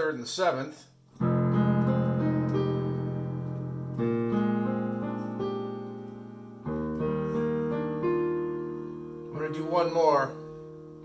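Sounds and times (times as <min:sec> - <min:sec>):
digital piano jazz chords: 0:01.0 - 0:11.0.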